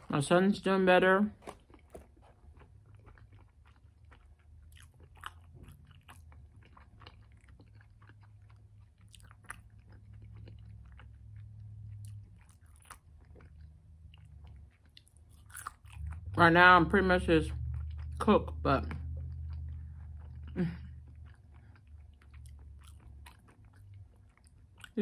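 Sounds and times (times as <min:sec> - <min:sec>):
low steady hum: 0:00.0 - 0:25.0
person chewing: 0:01.4 - 0:16.7, 0:17.4 - 0:25.0.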